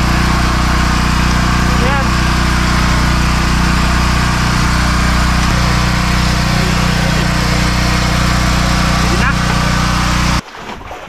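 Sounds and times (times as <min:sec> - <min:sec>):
generator droning: 0:00.0 - 0:10.4.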